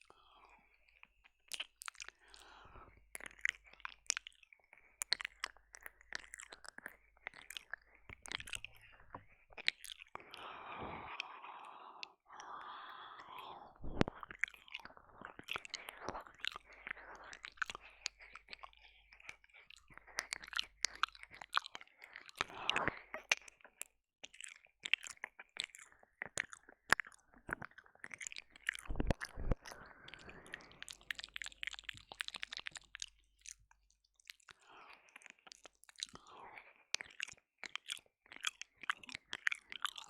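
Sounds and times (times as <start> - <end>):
wet mouth licking and smacking: 0.0 - 40.0.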